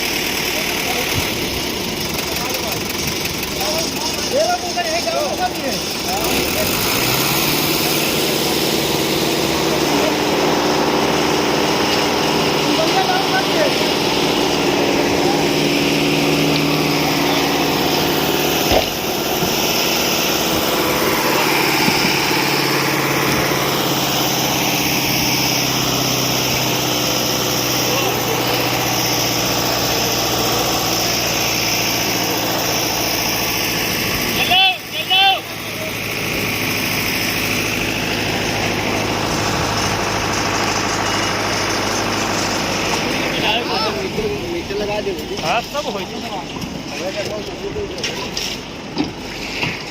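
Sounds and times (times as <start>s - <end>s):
machinery engine running: 0.0s - 49.4s.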